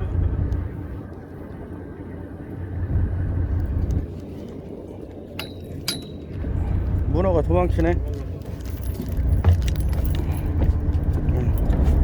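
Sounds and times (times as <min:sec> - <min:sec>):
boat engine rumble: 0:00.0 - 0:12.0
wind noise: 0:00.0 - 0:12.0.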